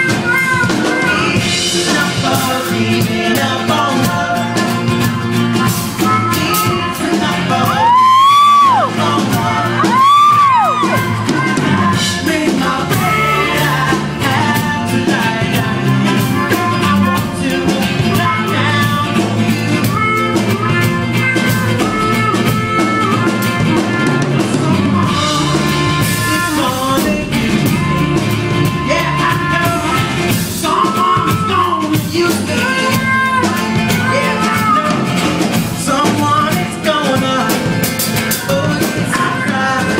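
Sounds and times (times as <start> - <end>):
live rock band: 0.0 - 39.9
person singing: 0.0 - 39.9.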